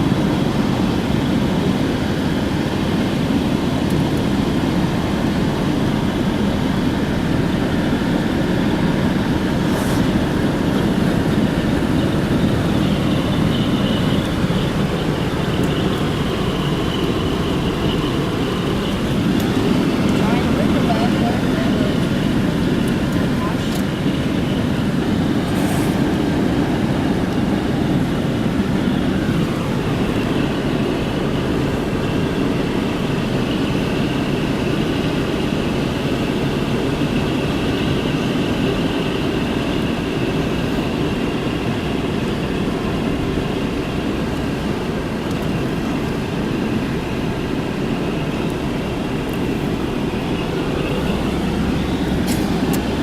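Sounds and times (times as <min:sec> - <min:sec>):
faint high whine: 0:00.0 - 0:53.0
moving vehicle rumble: 0:00.0 - 0:53.0.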